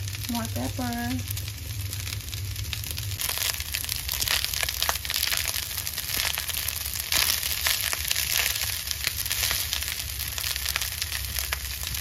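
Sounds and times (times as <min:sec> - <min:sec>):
frying hiss: 0:00.0 - 0:12.0.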